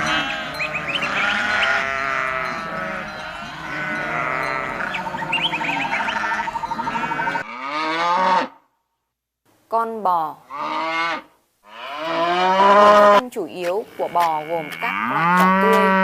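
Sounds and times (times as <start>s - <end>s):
goats bleating: 0.0s - 8.5s, 10.5s - 16.0s.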